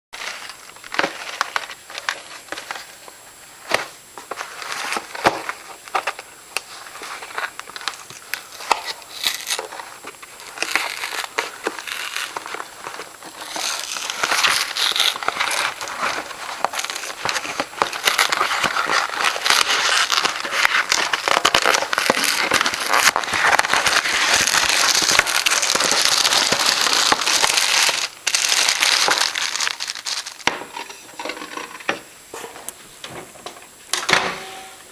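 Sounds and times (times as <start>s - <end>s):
plastic packaging crinkling: 0.2s - 31.6s.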